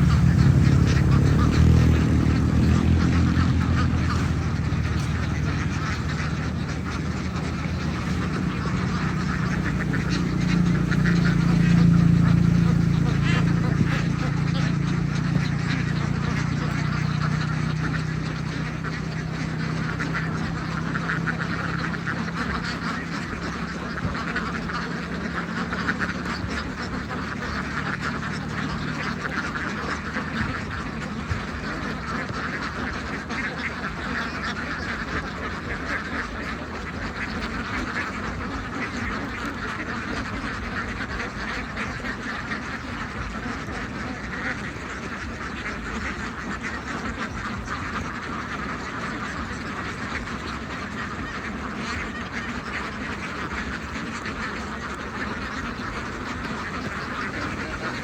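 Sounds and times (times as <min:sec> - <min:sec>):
flock of ducks quacking: 0:00.0 - 0:58.0.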